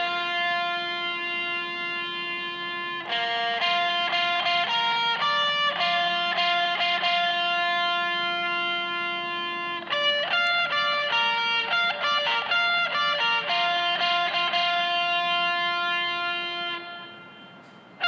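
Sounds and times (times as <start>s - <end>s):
solo electric guitar melody: 0.0s - 18.0s.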